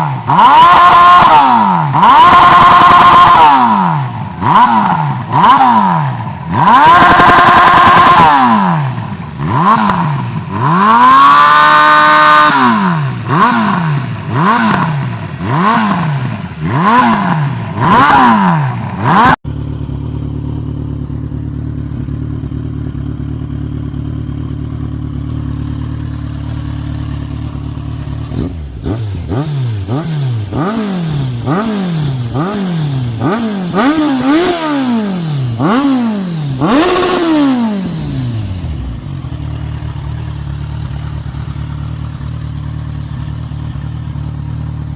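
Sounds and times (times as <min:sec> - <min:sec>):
motorcycle engine revving: 0:00.0 - 0:44.9
motorcycle idling: 0:00.0 - 0:44.9.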